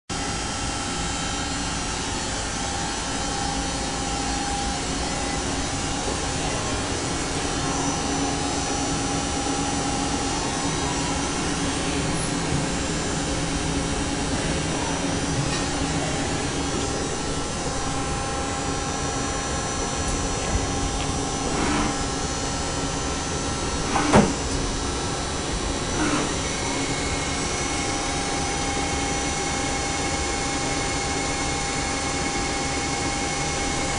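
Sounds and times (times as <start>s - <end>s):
lathe hum and whir: 0.1s - 33.9s.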